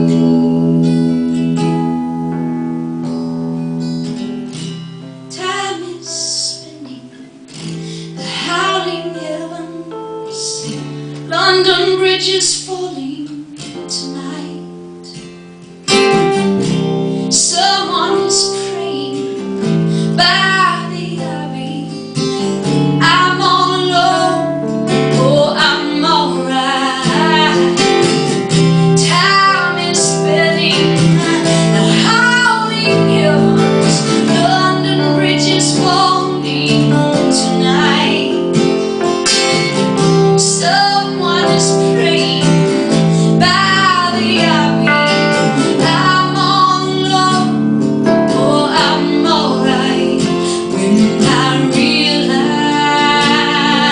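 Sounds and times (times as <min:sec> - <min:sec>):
acoustic guitar chords: 0:00.0 - 0:53.9
woman singing: 0:05.3 - 0:15.3, 0:16.6 - 0:53.9.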